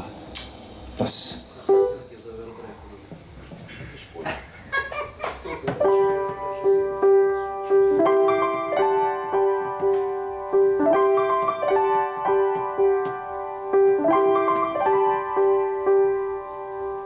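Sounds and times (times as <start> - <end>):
solo grand piano: 0.8 - 3.6, 5.5 - 17.0.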